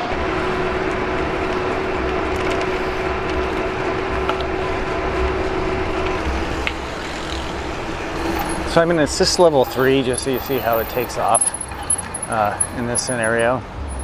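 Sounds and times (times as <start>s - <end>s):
bike rolling and rattling: 0.0s - 14.0s
steady whine: 0.0s - 14.0s.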